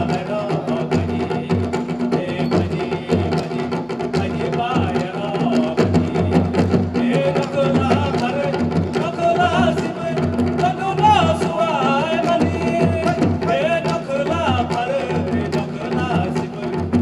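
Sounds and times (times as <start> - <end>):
drums beating: 0.0 - 17.0
folk dance music: 0.0 - 17.0
sharp clacks: 0.0 - 17.0.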